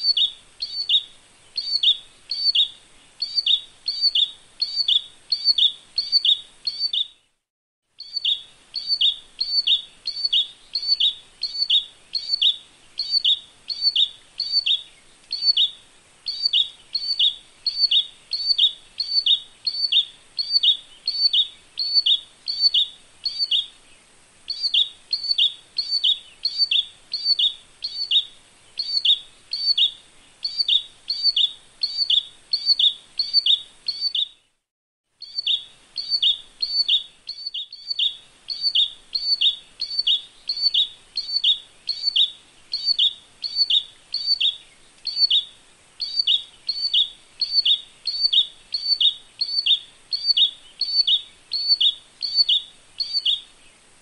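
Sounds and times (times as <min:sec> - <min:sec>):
bird chirping: 0:00.0 - 0:07.4, 0:08.0 - 0:34.6, 0:35.2 - 0:53.9
faint high hiss: 0:00.0 - 0:54.0.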